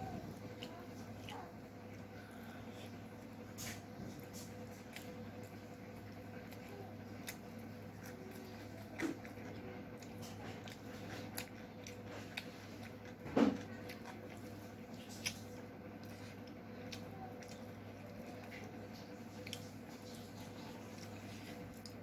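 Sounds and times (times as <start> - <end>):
faint steady hum: 0.0 - 22.0
wet chewing: 0.0 - 22.0.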